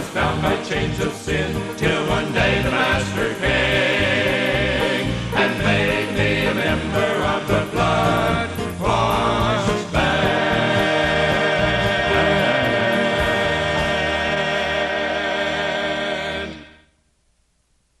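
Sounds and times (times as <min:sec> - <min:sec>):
band playing: 0:00.0 - 0:16.5
vocal group singing: 0:00.0 - 0:16.9.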